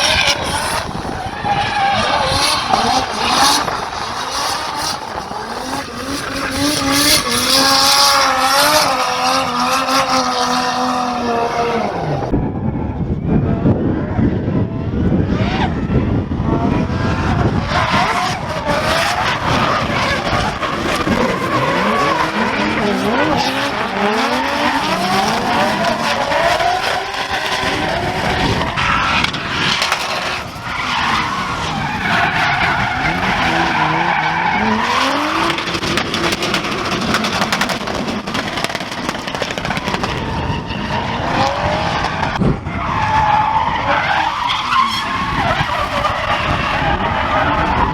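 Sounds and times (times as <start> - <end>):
tyres squealing and skidding: 0.0 - 12.4, 16.9 - 47.9
car engines revving: 0.0 - 47.9.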